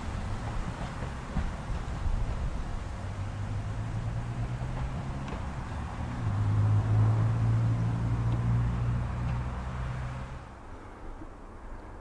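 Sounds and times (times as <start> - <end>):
train rushing noise: 0.0 - 10.9
train hum: 0.0 - 12.0.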